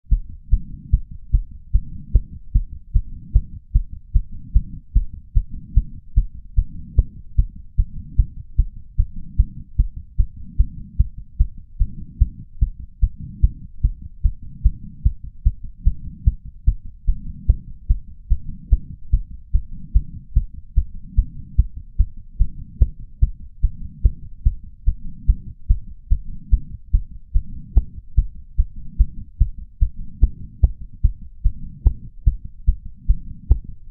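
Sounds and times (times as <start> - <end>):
fast heartbeat thumps: 0.1 - 33.9.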